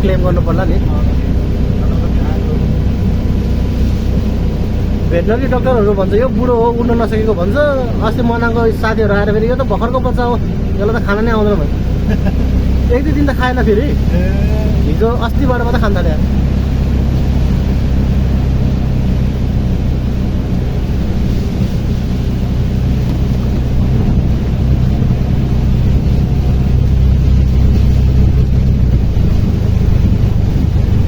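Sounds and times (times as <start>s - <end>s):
auto-rickshaw engine running: 0.0s - 31.0s
road rushing noise: 0.0s - 31.0s.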